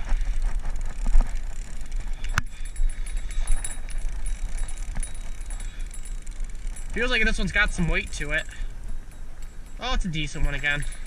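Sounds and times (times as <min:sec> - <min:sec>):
fishing reel clicking: 0:00.2 - 0:11.0.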